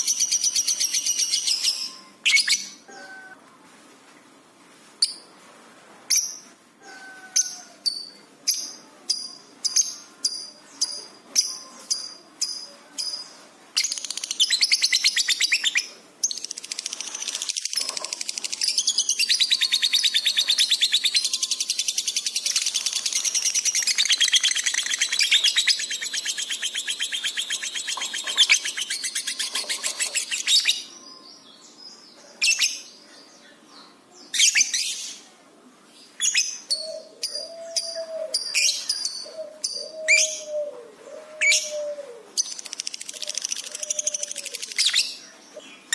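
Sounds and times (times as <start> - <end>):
bird chirping and trilling: 0.0 - 3.4, 6.2 - 31.7, 36.2 - 40.7, 41.4 - 45.9.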